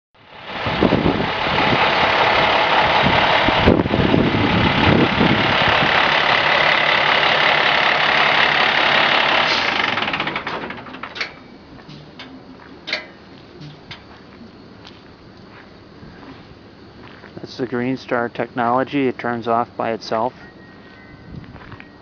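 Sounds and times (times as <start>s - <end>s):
fire truck engine running: 0.2s - 22.0s.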